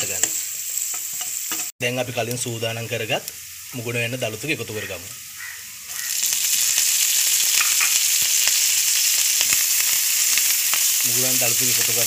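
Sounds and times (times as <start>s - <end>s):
leaves sizzling in a pan: 0.0s - 12.0s
soft frying: 0.0s - 12.0s.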